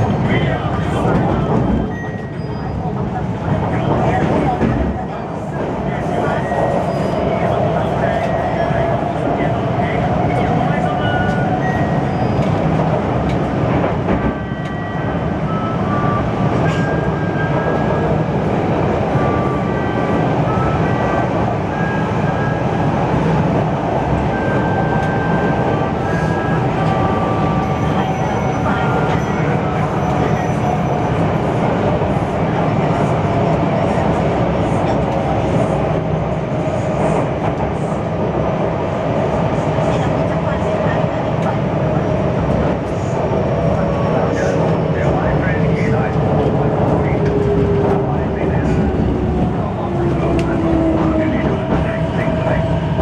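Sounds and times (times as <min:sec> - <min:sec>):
train wheels rumbling: 0:00.0 - 0:53.0.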